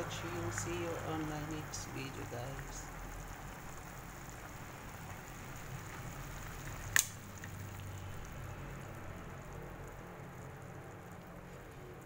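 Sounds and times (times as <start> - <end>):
pot of broth boiling: 0.0 - 12.0.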